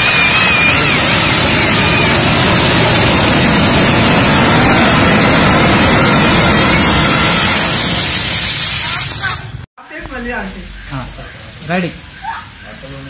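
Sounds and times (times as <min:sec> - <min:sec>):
fountain fireworks hissing: 0:00.0 - 0:13.0.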